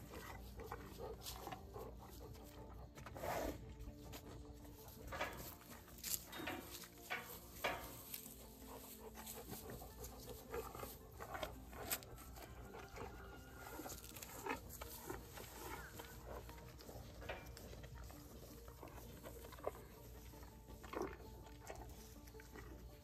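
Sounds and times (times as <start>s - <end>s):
farm animal eating snack: 0.0s - 23.0s.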